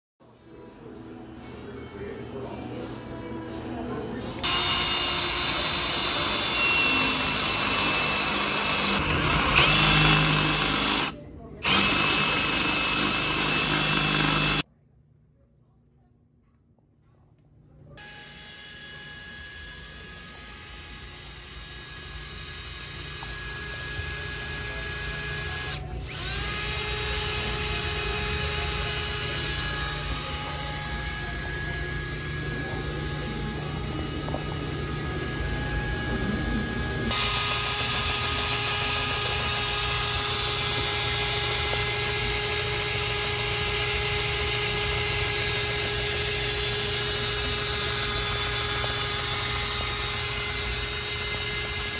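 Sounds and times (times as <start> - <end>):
power drill boring into floor: 4.4 - 14.6, 18.0 - 51.9.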